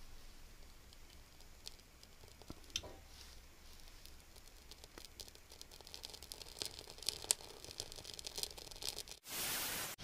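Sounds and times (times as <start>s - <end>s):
kindling crackling and popping: 0.0s - 9.4s.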